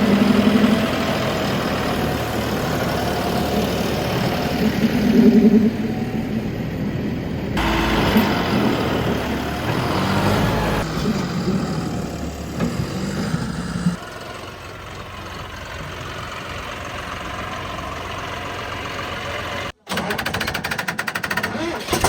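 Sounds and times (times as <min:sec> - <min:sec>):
diesel tractor engine chugging: 0:00.0 - 0:19.8.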